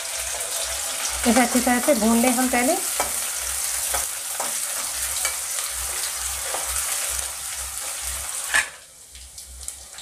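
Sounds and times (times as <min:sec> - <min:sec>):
vegetables sizzling in hot oil: 0:00.0 - 0:10.0
metal spatula scraping a pan: 0:00.2 - 0:08.8.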